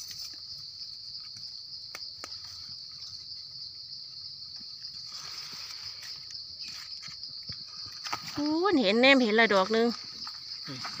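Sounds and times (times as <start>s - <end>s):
high-pitched insect chorus: 0.0s - 11.0s
light clicks and rustle in leaves: 0.0s - 11.0s.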